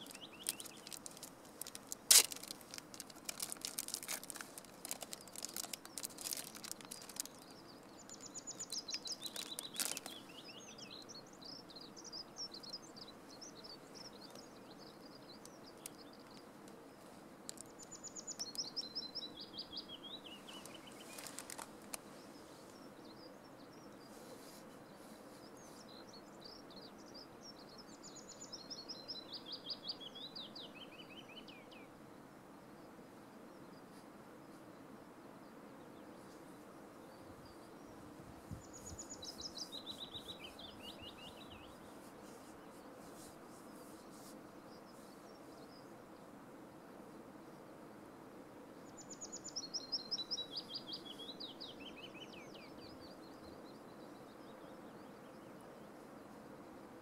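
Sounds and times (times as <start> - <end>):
faint outdoor hiss: 0.0 - 57.0.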